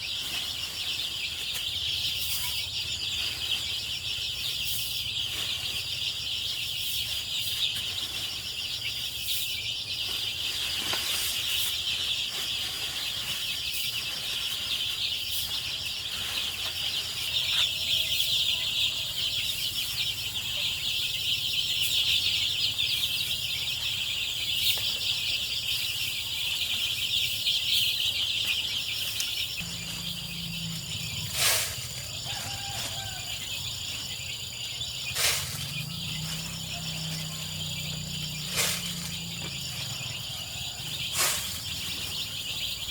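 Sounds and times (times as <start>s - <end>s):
chicks peeping and chirping: 0.0s - 42.9s.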